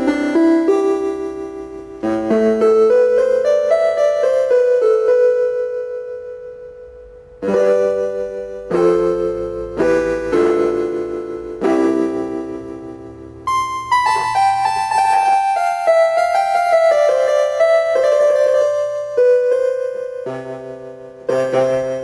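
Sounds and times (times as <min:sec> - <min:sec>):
electronic keyboard chords: 0:00.0 - 0:22.0.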